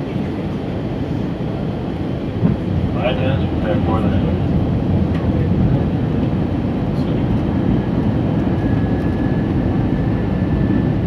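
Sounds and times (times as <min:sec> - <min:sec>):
jet airliner engine rumble: 0:00.0 - 0:11.0.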